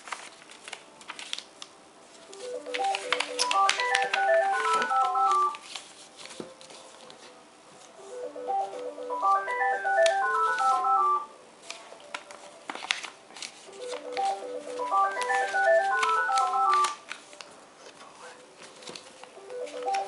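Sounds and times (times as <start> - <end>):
paper rustling and creasing: 0.0 - 7.9, 11.7 - 20.0.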